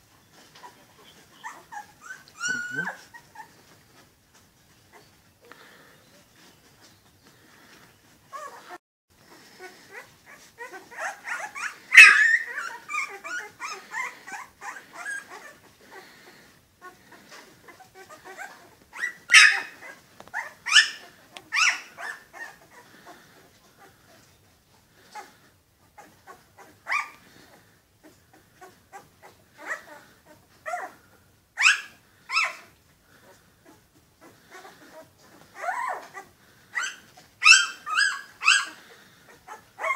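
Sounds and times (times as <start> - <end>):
puppies whimpering and squeaking: 0.0 - 39.9
soft rustling: 0.0 - 39.9.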